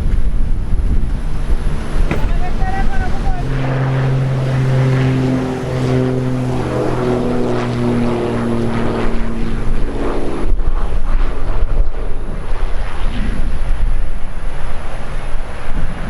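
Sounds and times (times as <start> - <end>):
low rumble: 0.0 - 16.0
propeller aircraft passing: 0.0 - 16.0.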